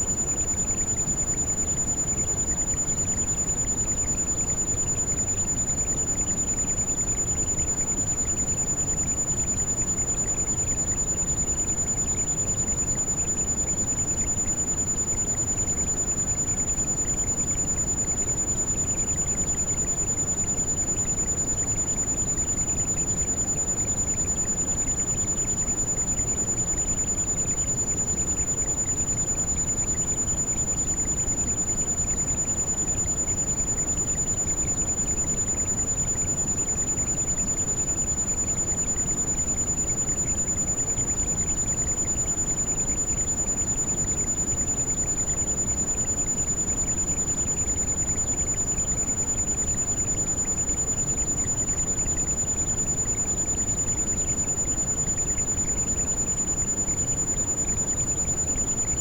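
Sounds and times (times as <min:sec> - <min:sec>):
thin high-pitched ringing tone: 0:00.0 - 0:59.0.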